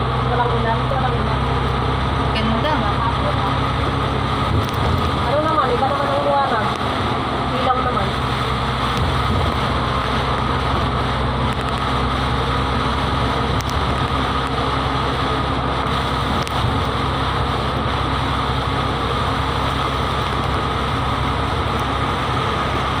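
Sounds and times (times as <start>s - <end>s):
rushing noise: 0.0s - 23.0s
vehicle engine hum: 0.0s - 23.0s.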